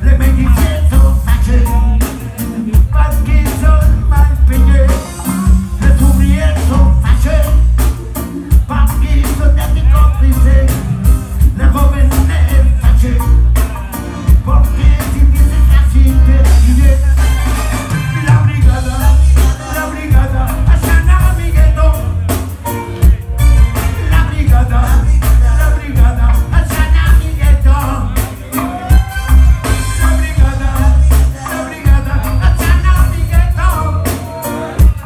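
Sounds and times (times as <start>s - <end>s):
lead vocal singing: 0.0s - 7.8s, 8.4s - 35.0s
heavy boomy bass: 0.0s - 35.0s
rock band playing: 0.0s - 35.0s.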